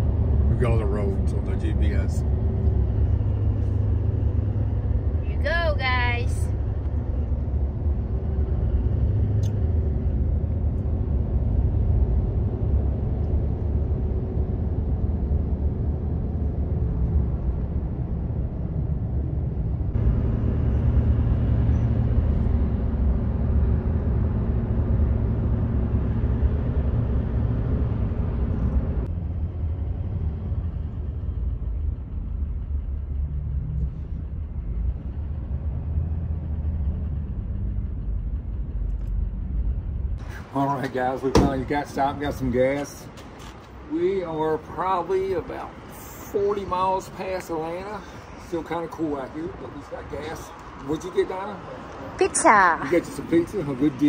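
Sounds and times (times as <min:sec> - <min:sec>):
truck road rumble: 0:00.0 - 0:54.0.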